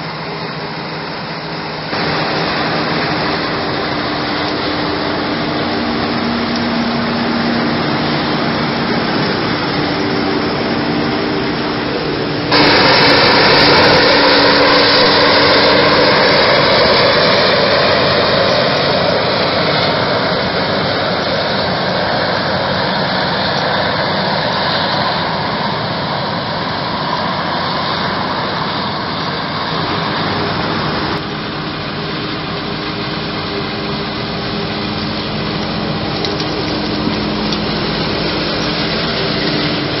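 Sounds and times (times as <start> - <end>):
tractor engine: 0.0 - 40.0.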